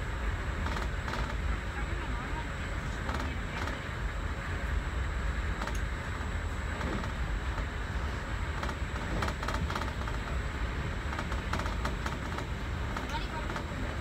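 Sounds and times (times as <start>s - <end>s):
train carriage running rumble: 0.0s - 14.0s.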